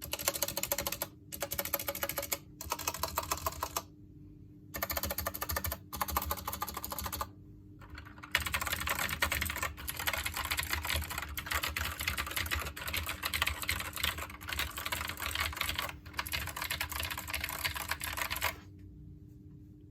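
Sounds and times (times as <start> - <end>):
fast keyboard typing clicks: 0.0 - 3.9, 4.8 - 18.6.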